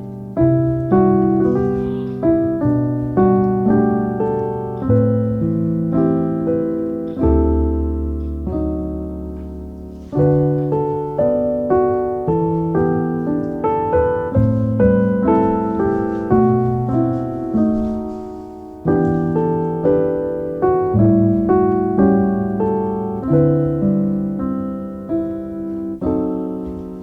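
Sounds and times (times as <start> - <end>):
solo piano music: 0.0 - 27.0.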